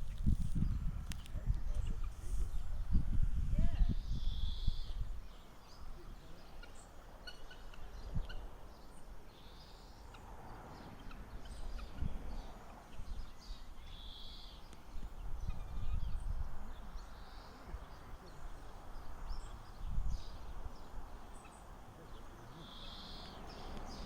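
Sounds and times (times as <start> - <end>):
birds chirping and calling: 0.0 - 2.8, 3.8 - 24.0.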